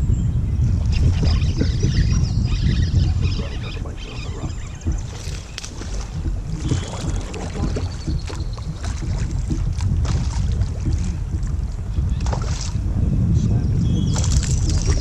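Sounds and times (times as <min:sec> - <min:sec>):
water around kayak: 0:00.0 - 0:15.0
wind rumbling on microphone: 0:00.0 - 0:15.0.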